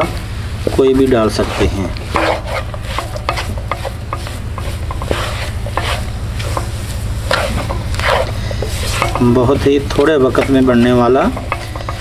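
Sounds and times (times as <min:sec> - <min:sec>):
wooden spatula scraping a wok: 0:00.0 - 0:12.0.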